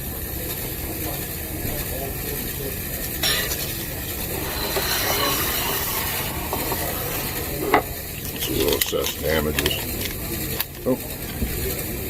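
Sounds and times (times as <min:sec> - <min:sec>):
restaurant background noise: 0:00.0 - 0:12.0.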